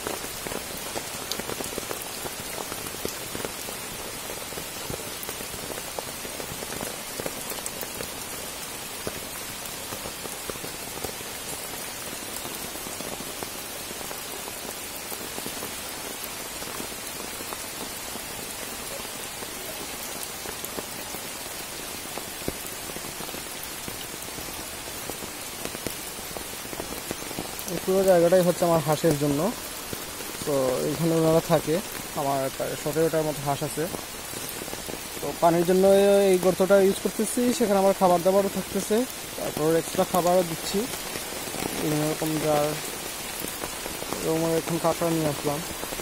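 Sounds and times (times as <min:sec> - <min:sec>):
rain falling on water: 0:00.0 - 0:46.0.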